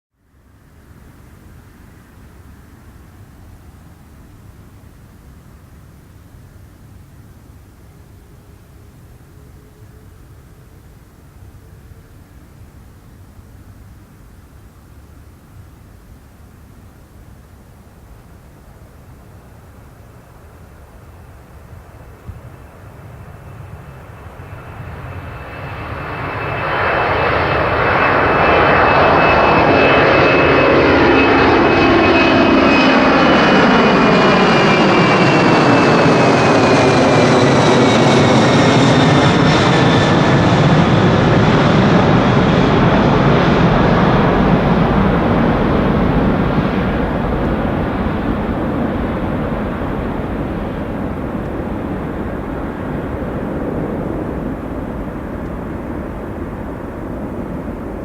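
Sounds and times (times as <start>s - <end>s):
jet engine whine: 0.2s - 58.0s
jet airliner passing at takeoff: 0.4s - 58.0s.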